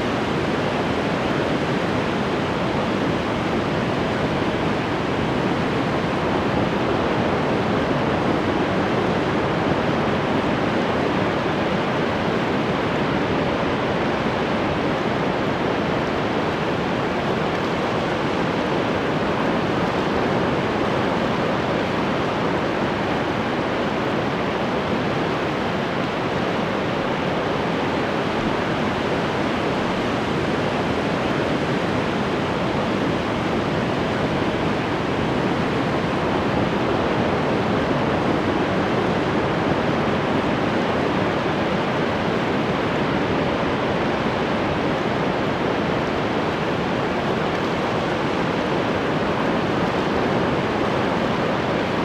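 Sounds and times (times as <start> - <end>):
ocean surf washing ashore: 0.0 - 52.0.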